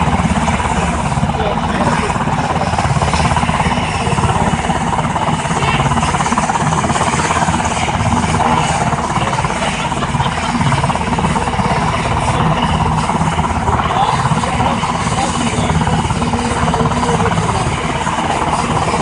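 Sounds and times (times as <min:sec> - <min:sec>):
helicopter rotor chop: 0:00.0 - 0:19.0.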